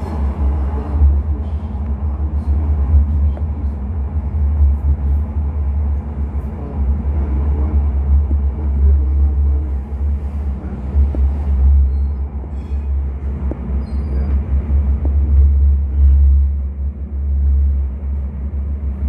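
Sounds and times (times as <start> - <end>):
tram rumbling in motion: 0.0 - 19.0.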